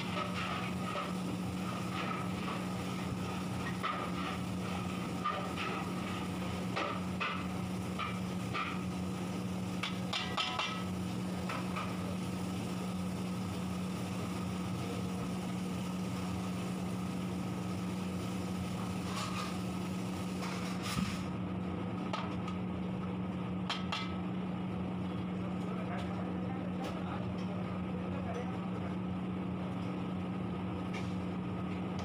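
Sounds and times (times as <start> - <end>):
kitchen equipment hum: 0.0 - 32.0.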